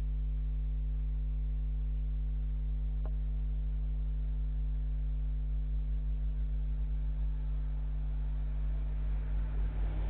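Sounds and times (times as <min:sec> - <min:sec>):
electrical hum with tones: 0:00.0 - 0:10.0.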